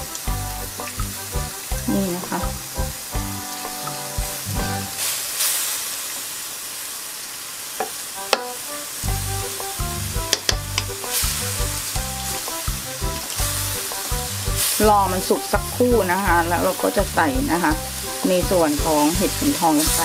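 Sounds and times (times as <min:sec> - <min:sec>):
meat sizzling in a wok: 0:00.0 - 0:20.0.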